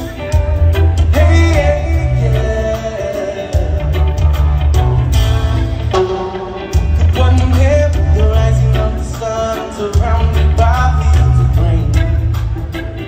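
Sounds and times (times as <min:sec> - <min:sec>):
heavy bass line: 0:00.0 - 0:13.0
person singing lead vocal: 0:00.0 - 0:13.0
reggae rock band playing: 0:00.0 - 0:13.0.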